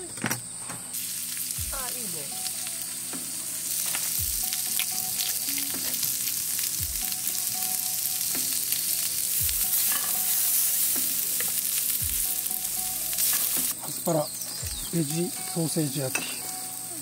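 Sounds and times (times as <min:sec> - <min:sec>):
food sizzling in a pan: 0:00.9 - 0:17.0.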